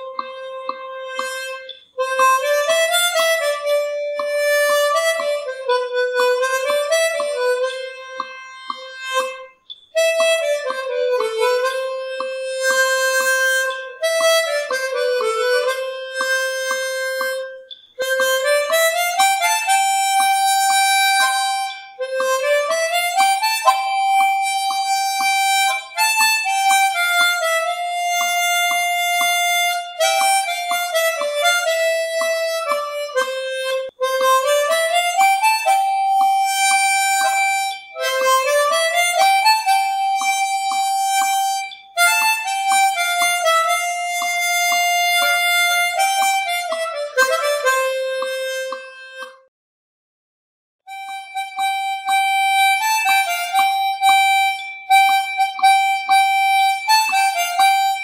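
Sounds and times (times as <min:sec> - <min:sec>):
melody of gliding notes: 0:00.0 - 0:49.4, 0:50.9 - 0:58.0
light steady beat: 0:00.0 - 0:49.5, 0:50.9 - 0:58.0.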